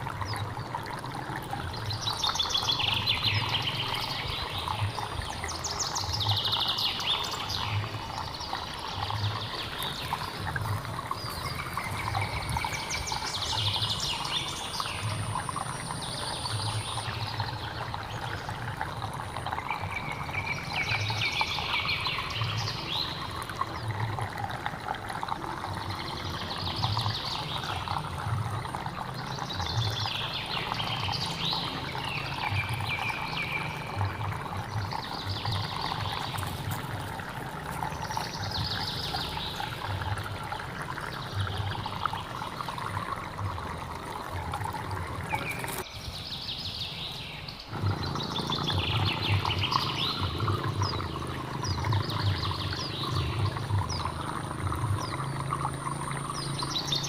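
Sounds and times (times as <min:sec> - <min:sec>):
birds singing: 0:00.0 - 0:57.0
stream water running: 0:00.0 - 0:57.0.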